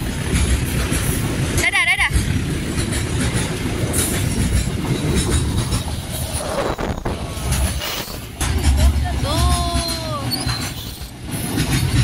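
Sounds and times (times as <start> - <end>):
clacks over rail joints: 0.0 - 12.0
train wheels rumbling: 0.0 - 12.0.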